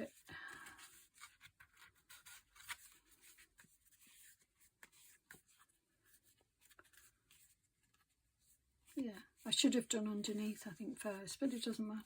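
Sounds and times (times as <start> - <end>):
paper notebook rustling: 0.0 - 12.0.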